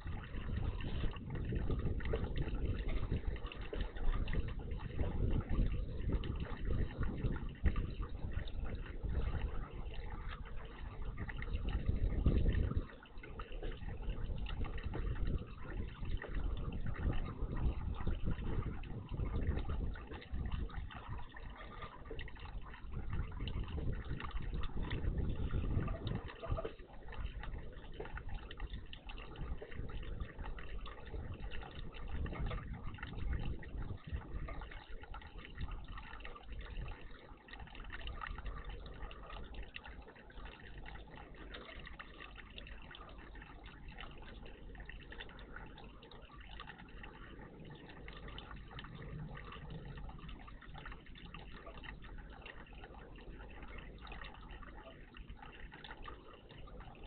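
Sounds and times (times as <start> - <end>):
water splashing and running: 0.0 - 57.0.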